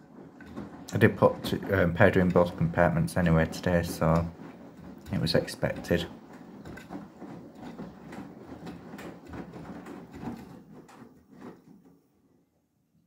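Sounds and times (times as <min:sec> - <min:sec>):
wet laundry sloshing: 0:00.0 - 0:11.9
washing machine drum turning: 0:00.0 - 0:12.1.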